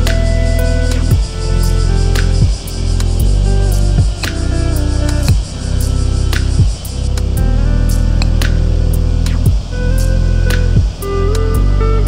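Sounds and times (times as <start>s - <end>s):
calm background music: 0.0s - 12.0s.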